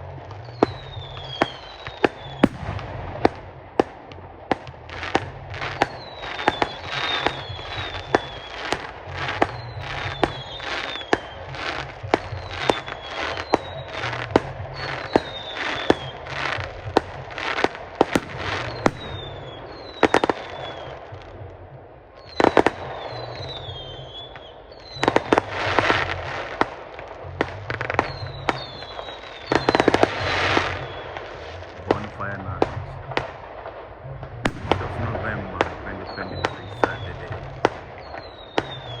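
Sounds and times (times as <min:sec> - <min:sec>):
fireworks whistles: 0:00.0 - 0:21.5, 0:22.1 - 0:39.0
fireworks bangs and crackling: 0:00.0 - 0:39.0.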